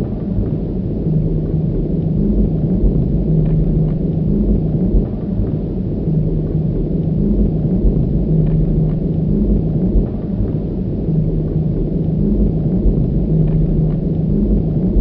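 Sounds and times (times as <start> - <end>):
deep mechanical rumble: 0.0 - 15.0
low pulsing humming strum: 0.0 - 15.0.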